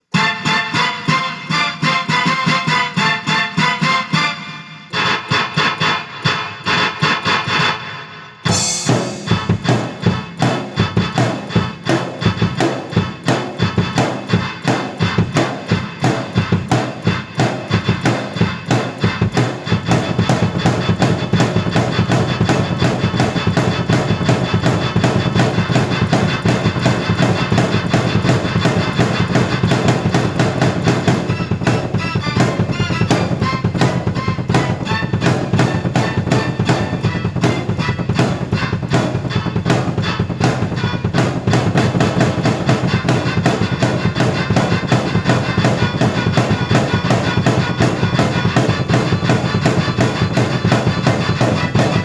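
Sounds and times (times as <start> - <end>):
drum kit beat: 0.0 - 52.0
keyboard playing: 0.0 - 52.0.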